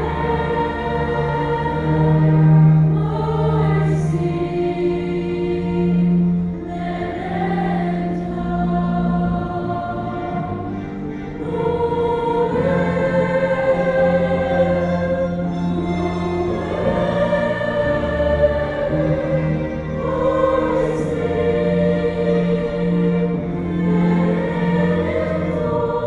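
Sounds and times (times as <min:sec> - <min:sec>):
girls' choir singing a carol: 0:00.0 - 0:26.0.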